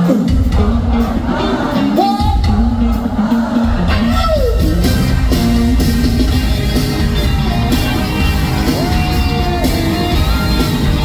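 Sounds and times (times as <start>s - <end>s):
live pop music through loudspeakers: 0.0s - 11.0s.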